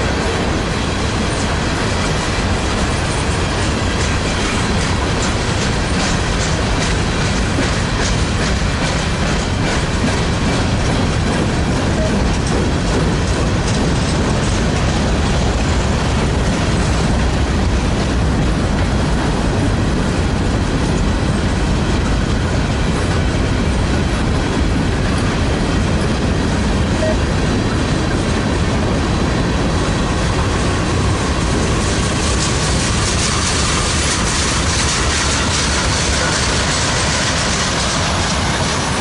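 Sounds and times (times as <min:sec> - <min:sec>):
freight train passing: 0:00.0 - 0:39.0.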